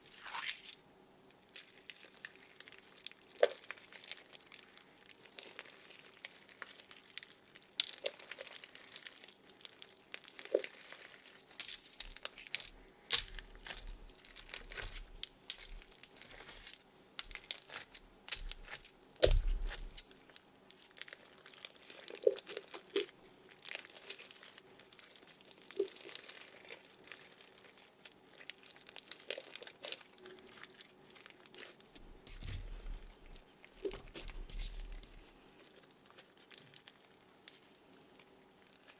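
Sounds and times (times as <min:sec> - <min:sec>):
slime beads crackling: 0:00.0 - 0:38.9.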